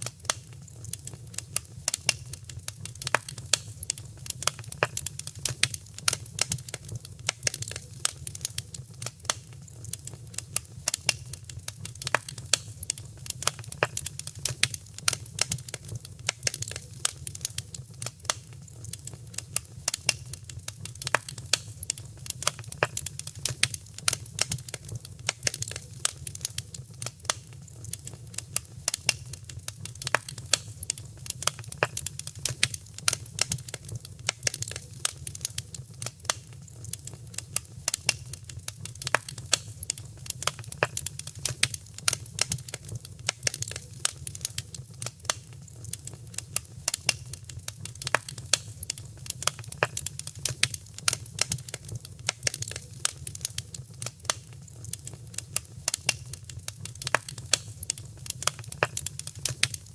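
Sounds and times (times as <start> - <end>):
fire crackling and popping: 0.0 - 59.9
low rumble of flames: 0.3 - 59.9.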